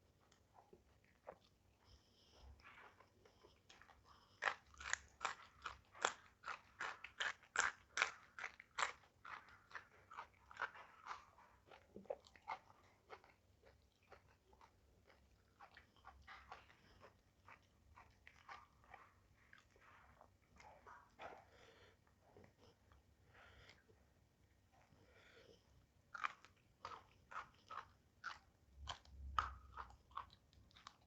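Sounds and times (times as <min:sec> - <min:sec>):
person chewing crunchy food: 0:00.1 - 0:24.9, 0:25.8 - 0:31.0.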